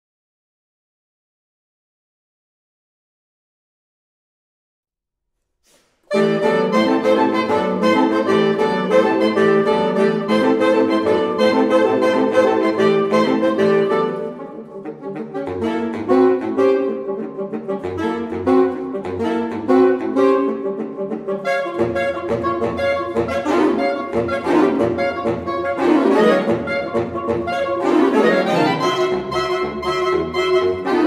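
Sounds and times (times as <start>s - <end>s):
saxophone quartet playing: 6.1s - 31.0s.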